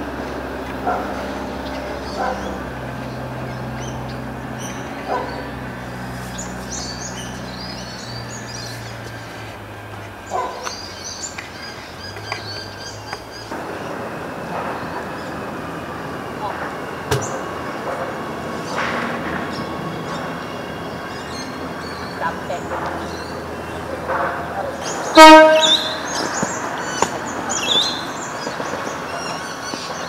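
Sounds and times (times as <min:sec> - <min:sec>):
birds chirping: 0:00.0 - 0:30.0
electric railcar humming: 0:00.0 - 0:30.0.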